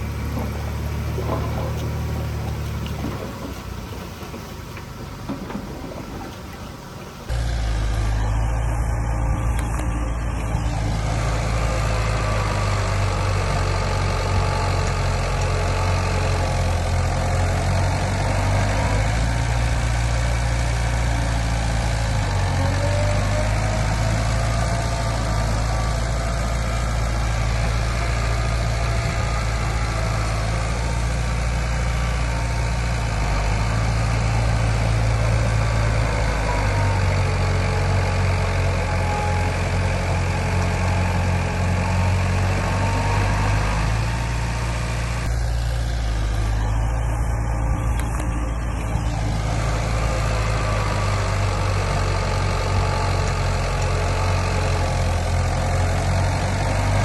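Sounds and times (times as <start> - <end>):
faint whining glides: 0.0 - 13.1, 18.8 - 55.5
heavy diesel engine running: 0.0 - 57.0.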